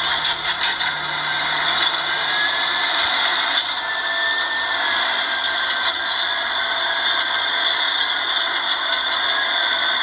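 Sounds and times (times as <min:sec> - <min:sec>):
excavator whirring with rattle: 0:00.0 - 0:10.0.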